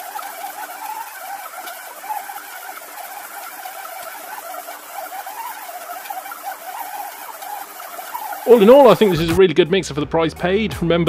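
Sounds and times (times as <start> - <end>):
stand mixer motor humming: 0.0 - 9.4.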